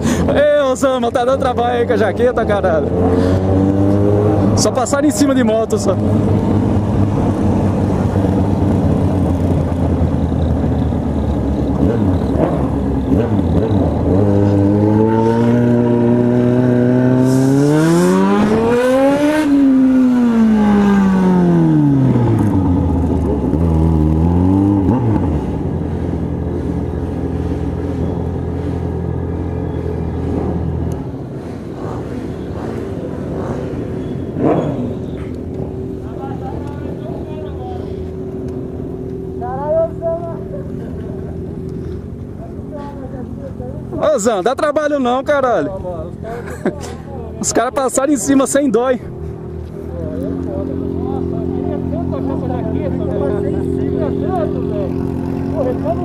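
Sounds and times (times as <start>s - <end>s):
motorcycle engine revving: 0.0s - 46.2s, 47.4s - 56.0s.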